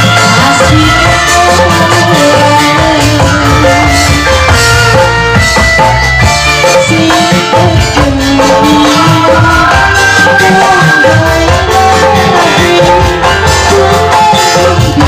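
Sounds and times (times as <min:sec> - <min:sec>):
woman singing into a microphone: 0:00.0 - 0:05.8, 0:06.6 - 0:15.0
drums and percussion: 0:00.0 - 0:15.0
instrumental melody: 0:00.0 - 0:15.0.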